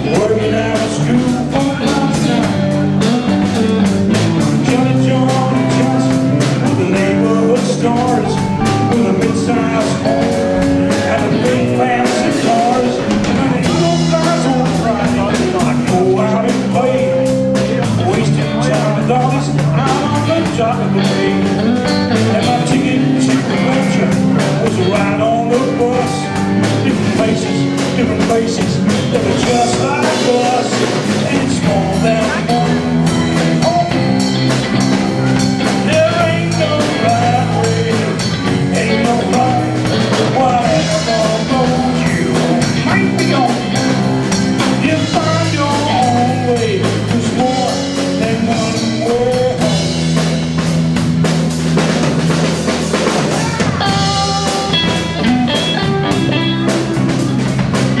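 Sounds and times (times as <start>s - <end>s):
blues harmonica: 0.0s - 51.3s, 53.0s - 58.0s
drum kit: 0.0s - 58.0s
electric bass: 0.0s - 58.0s
electric guitar: 0.0s - 58.0s
lead vocals: 0.0s - 58.0s.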